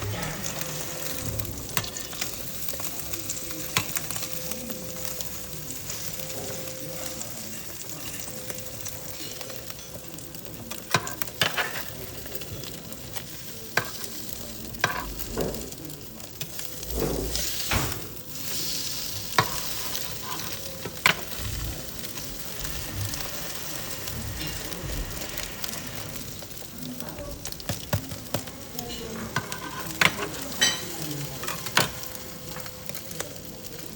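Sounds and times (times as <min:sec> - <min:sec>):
eggs sizzling in a pan: 0:00.0 - 0:33.9.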